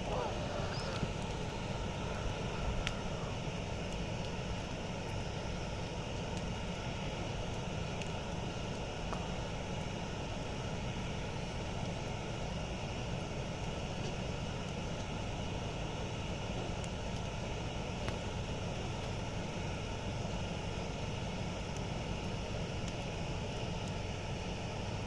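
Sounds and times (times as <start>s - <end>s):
campfire flames rumbling: 0.0s - 25.0s.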